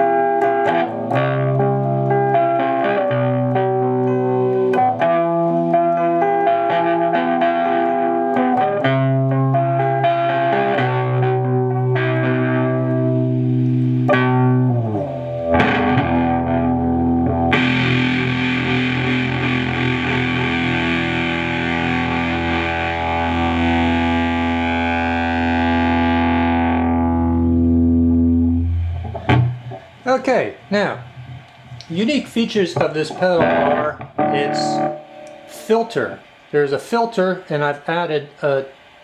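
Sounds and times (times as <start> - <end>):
distorted electric guitar chords: 0.0 - 36.4.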